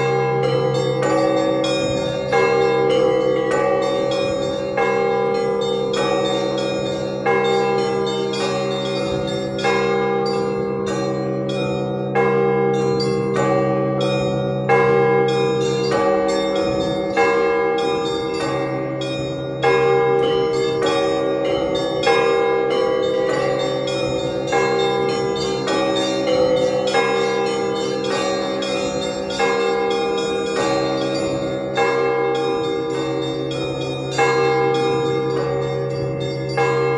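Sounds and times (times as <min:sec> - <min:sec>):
heavy church bell striking: 0:00.0 - 0:36.9
smaller bells pealing: 0:00.0 - 0:36.9.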